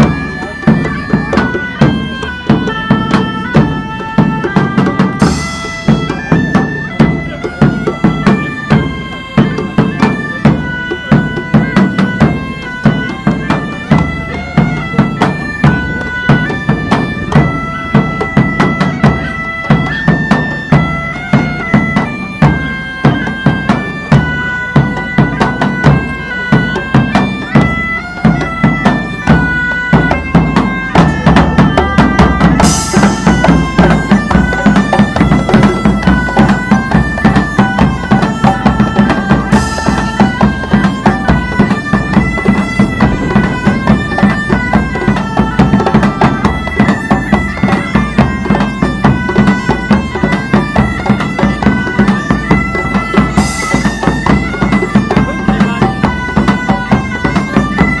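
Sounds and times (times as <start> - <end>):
bagpipes playing a lively melody: 0.0 - 58.0
drum beating a regular pulse: 0.0 - 58.0.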